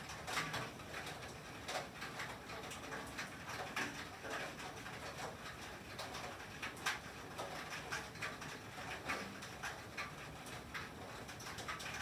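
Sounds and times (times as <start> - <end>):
rain and sleet on tin roof: 0.0 - 12.0.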